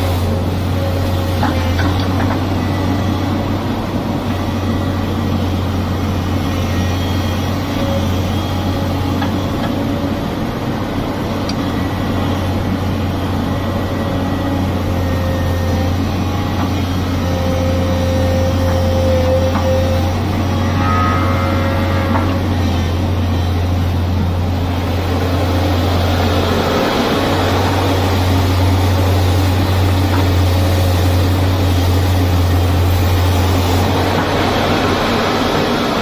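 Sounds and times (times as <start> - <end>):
diesel engine humming: 0.0 - 36.0.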